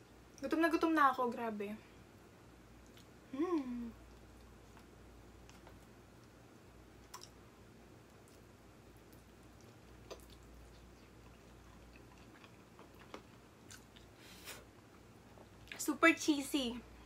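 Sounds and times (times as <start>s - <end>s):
person chewing softly: 1.9s - 15.8s.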